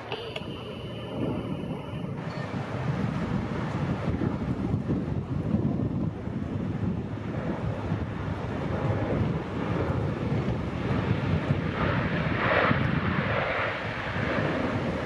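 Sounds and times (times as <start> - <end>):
turboprop aircraft flying past: 0.0 - 15.0
wind rumbling on microphone: 0.0 - 15.0.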